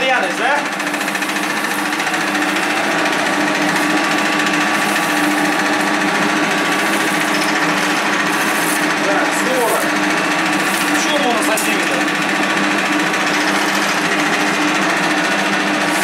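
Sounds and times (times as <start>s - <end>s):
lathe humming and whining: 0.0s - 16.0s.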